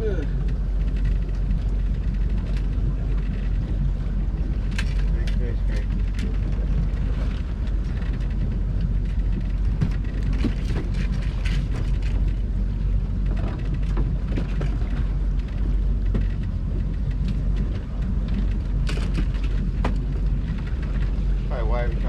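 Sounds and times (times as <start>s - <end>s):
motorboat engine rumbling: 0.0s - 22.0s.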